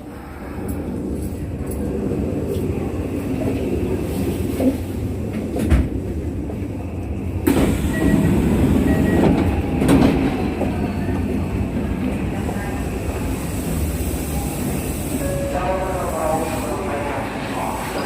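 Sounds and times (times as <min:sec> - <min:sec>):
electric train running rumble: 0:00.0 - 0:18.0.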